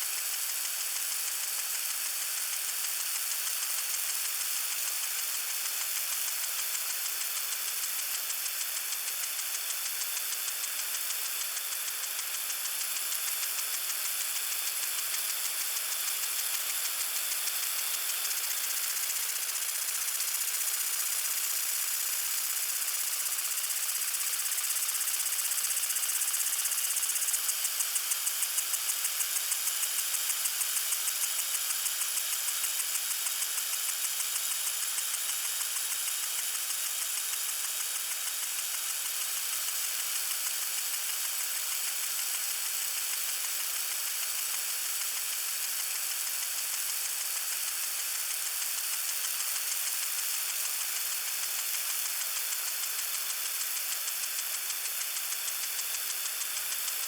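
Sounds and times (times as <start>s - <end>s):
rapid sprinkler ticking: 0.1s - 57.0s
sprinkler spraying hiss: 0.1s - 57.0s.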